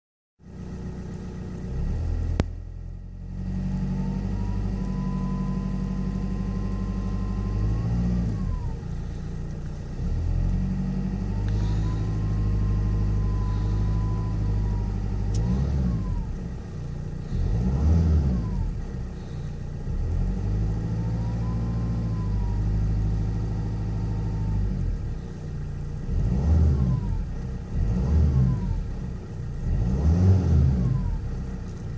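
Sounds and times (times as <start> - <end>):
diesel engine revving: 0.5 - 31.9.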